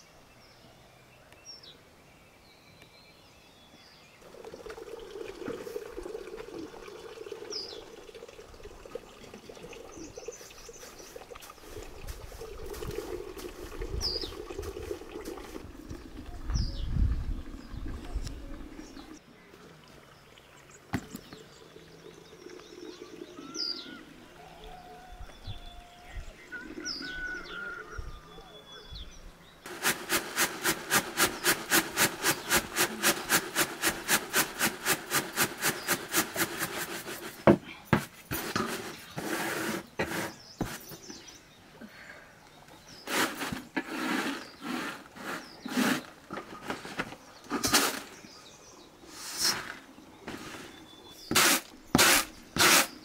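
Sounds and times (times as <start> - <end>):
faint birds chirping: 0.0 - 30.2, 35.5 - 53.0.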